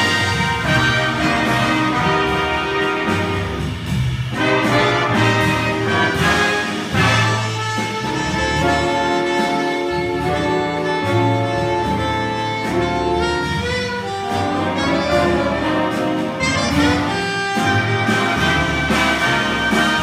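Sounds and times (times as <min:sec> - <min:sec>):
jazz band playing: 0:00.0 - 0:20.0.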